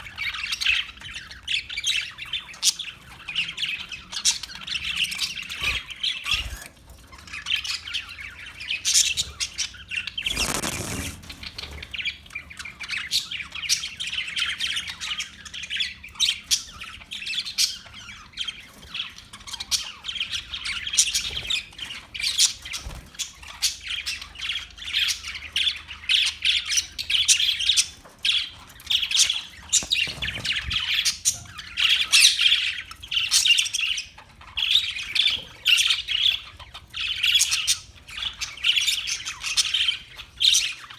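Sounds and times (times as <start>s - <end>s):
parakeets chirping and squawking: 0.2s - 40.9s.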